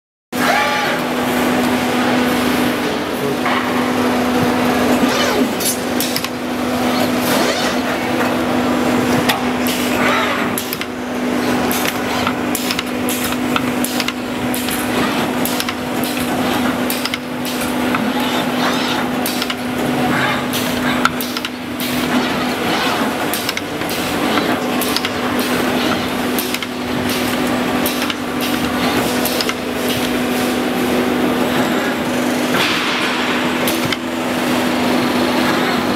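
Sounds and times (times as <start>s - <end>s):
steady machine hum: 0.4s - 35.9s
machine clicks and clanks: 3.4s - 35.9s.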